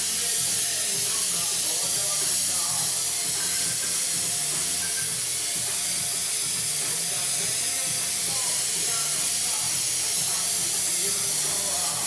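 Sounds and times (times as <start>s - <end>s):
airbrush hissing: 0.0s - 12.0s.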